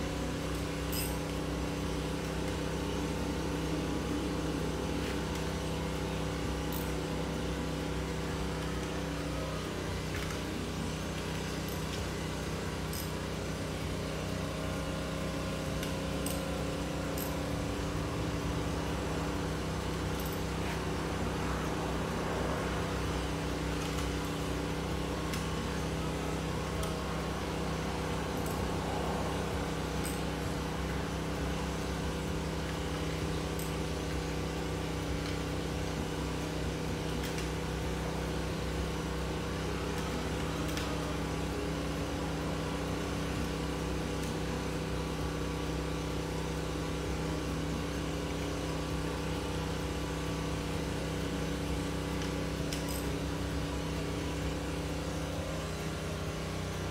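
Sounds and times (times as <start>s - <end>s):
steady low machine hum: 0.0s - 56.9s.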